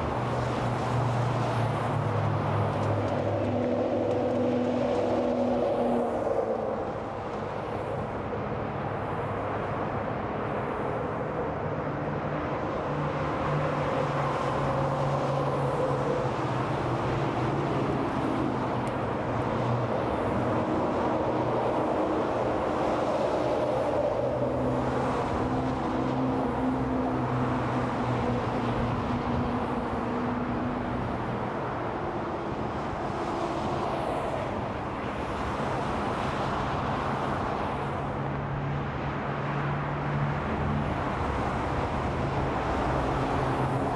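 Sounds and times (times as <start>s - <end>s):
highway traffic tyre noise: 0.0s - 43.9s
passing cars and trucks engine hum: 0.0s - 43.9s.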